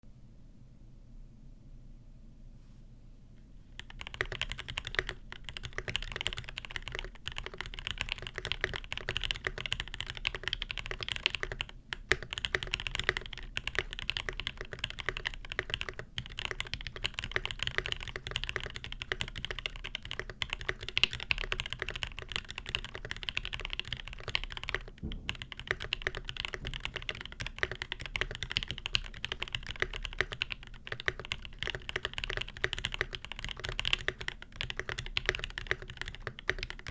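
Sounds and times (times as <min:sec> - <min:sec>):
fast typing on mechanical keyboard: 0:03.8 - 0:36.9.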